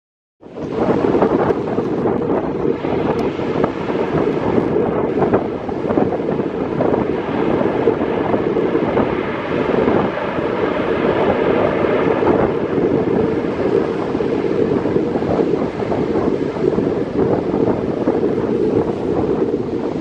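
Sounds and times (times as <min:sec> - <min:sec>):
jet engines low rumble: 0:00.4 - 0:20.0
wind buffeting microphone: 0:00.4 - 0:20.0.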